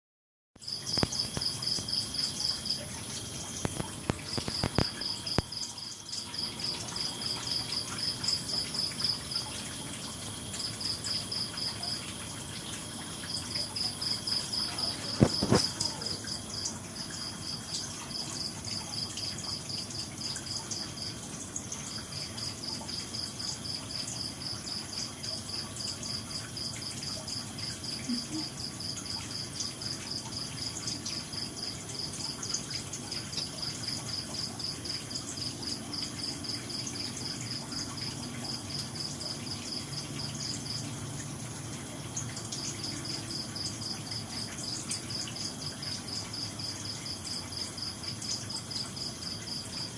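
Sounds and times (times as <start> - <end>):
insect trilling: 0.6 - 40.8.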